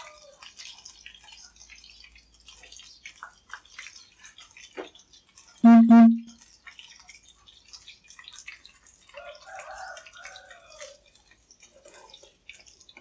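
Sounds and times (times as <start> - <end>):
deep-frying sizzle and crackle: 0.0 - 5.6, 6.3 - 13.0.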